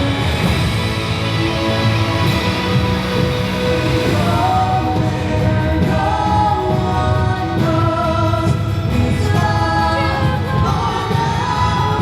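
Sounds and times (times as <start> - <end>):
orchestral music: 0.0 - 11.6.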